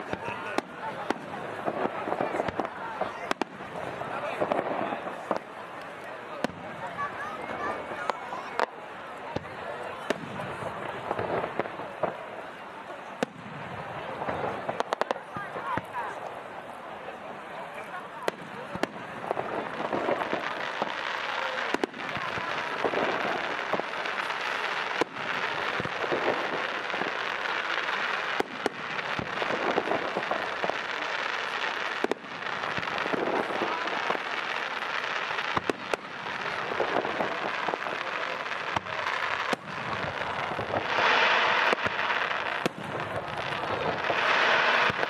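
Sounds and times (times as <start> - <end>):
fireworks crackling and popping: 0.0 - 45.0.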